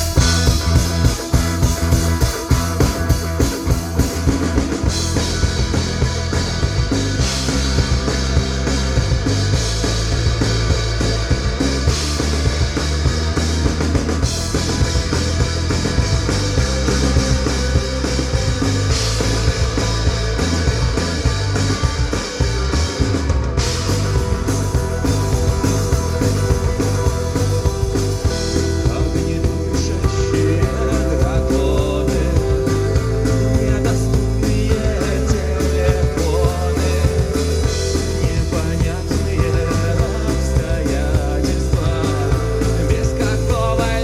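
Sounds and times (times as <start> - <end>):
drum kit beat: 0.0 - 44.0
rock band playing: 0.0 - 44.0.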